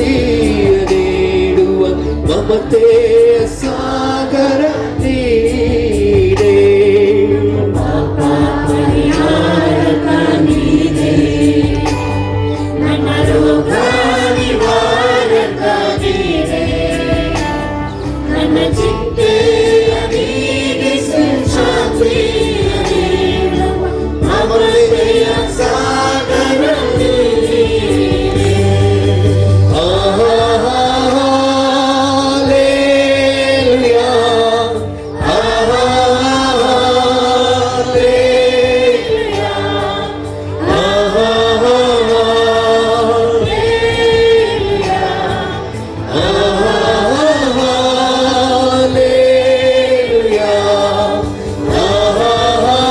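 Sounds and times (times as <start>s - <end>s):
group singing a praise song: 0.0s - 52.9s
instrumental accompaniment: 0.0s - 52.9s.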